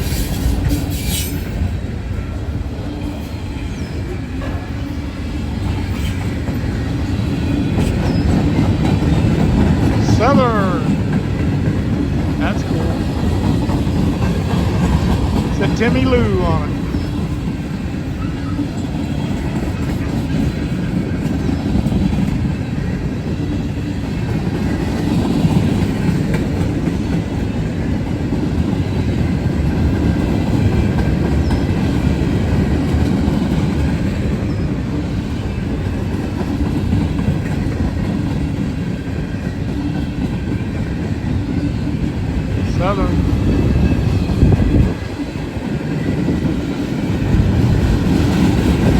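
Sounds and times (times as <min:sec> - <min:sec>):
freight cars rolling on rails: 0:00.0 - 0:48.9.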